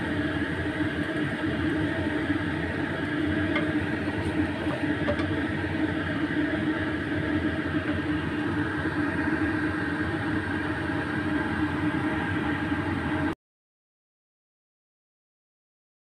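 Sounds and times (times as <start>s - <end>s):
gas stove whirring rumble: 0.0s - 13.4s.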